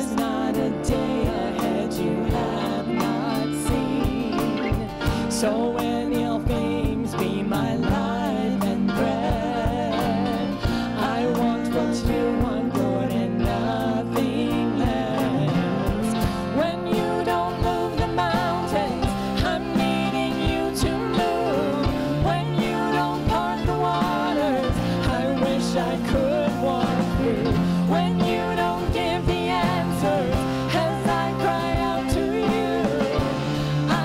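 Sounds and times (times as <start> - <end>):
worship song by band: 0.0 - 34.0.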